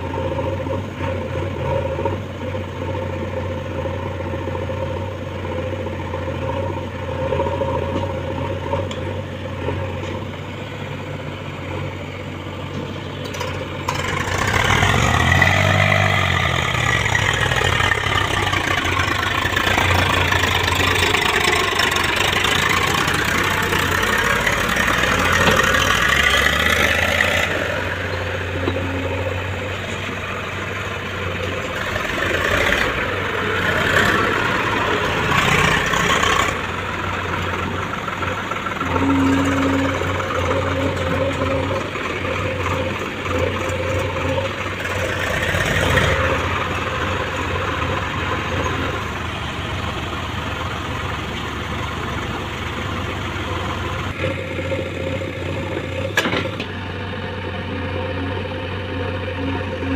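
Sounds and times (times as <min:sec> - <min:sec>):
diesel engines running: 0:00.0 - 0:59.9.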